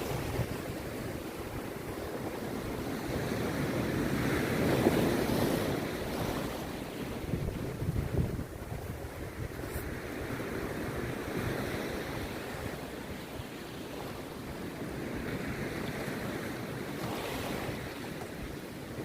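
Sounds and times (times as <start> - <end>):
sea surf breaking ashore: 0.0 - 19.0
wind buffeting microphone: 0.0 - 19.0.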